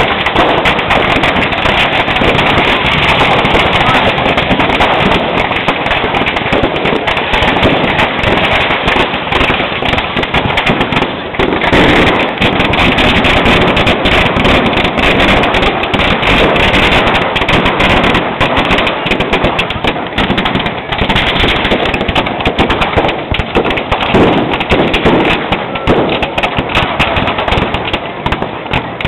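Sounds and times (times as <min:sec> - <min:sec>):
fireworks and firecrackers banging: 0:00.0 - 0:29.0.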